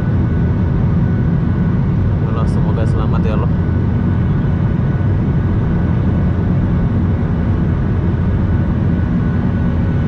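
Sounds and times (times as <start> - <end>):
airliner engines roaring: 0.0 - 10.0.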